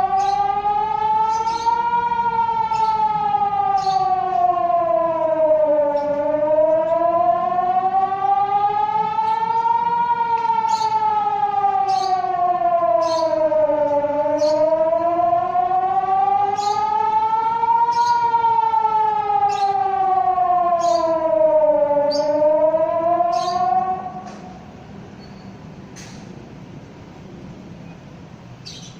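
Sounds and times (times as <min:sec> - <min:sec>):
emergency warning siren wailing: 0:00.0 - 0:28.9.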